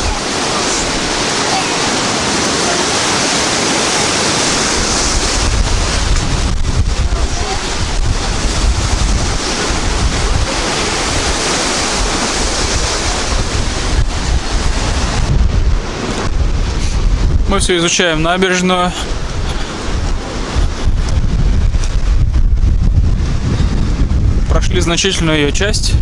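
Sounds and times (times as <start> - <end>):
surf breaking along a seawall: 0.0 - 26.0
wind buffeting the microphone: 0.0 - 26.0.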